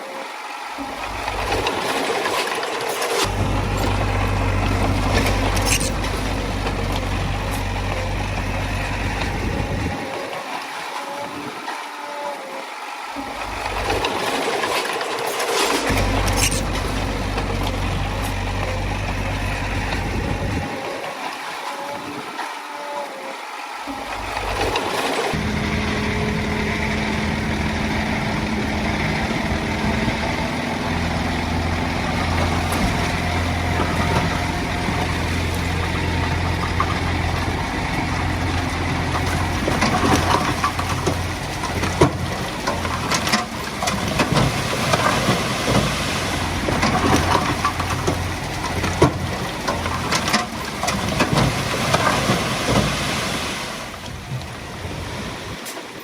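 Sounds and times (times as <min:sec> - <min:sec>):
heavy diesel engine running: 0:00.8 - 0:10.1, 0:13.2 - 0:14.5, 0:15.8 - 0:20.8, 0:23.9 - 0:55.1.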